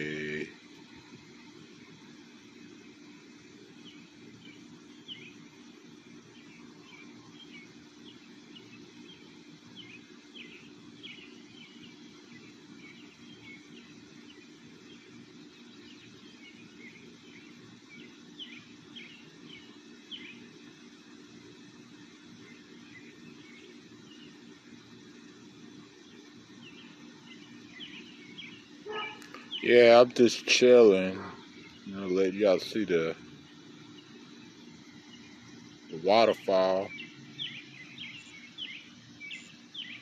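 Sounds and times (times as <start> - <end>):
birds chirping: 0.0 - 40.0
low outdoor background noise: 0.0 - 40.0.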